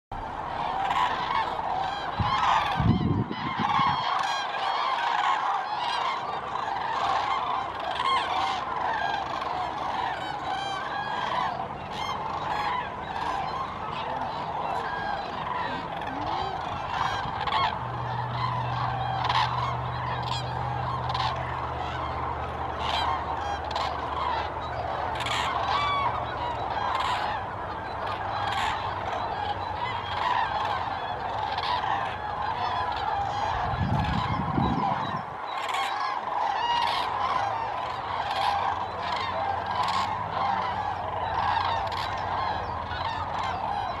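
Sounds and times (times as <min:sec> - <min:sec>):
geese honking: 0:00.1 - 0:44.0
low steady hum: 0:00.1 - 0:44.0
cranes calling in chorus: 0:00.2 - 0:44.0.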